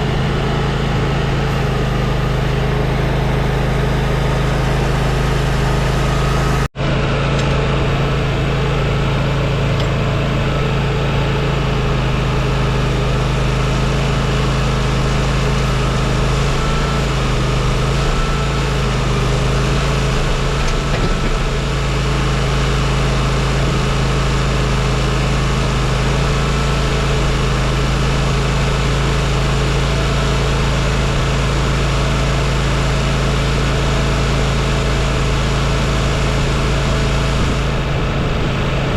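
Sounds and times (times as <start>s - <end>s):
band sawmill cutting wood: 0.0s - 38.9s.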